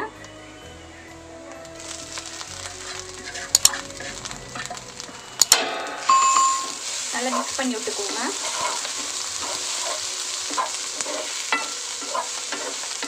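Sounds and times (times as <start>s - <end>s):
food sizzling in a pan: 0.6s - 13.0s
wooden spatula scraping a pan: 1.8s - 6.0s, 6.7s - 13.0s.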